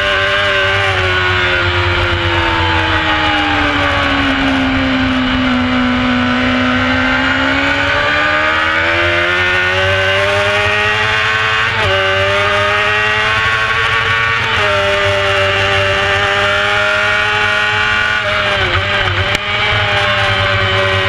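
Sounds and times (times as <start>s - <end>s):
race bike engine revving: 0.0s - 21.0s.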